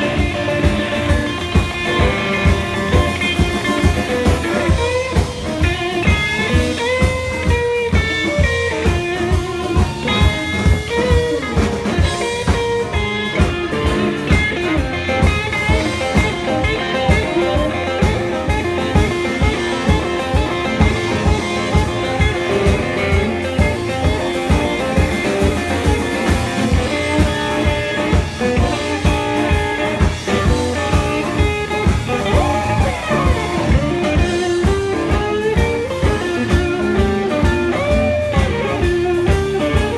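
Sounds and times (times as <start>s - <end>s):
blues guitar: 0.0s - 39.9s
steady drum beat: 0.0s - 39.9s.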